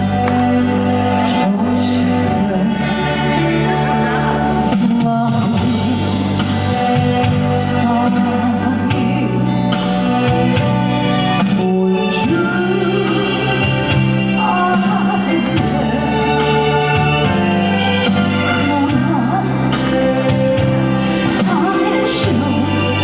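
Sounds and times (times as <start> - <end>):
organ-like chords: 0.0 - 23.0
sung melody: 0.0 - 23.0.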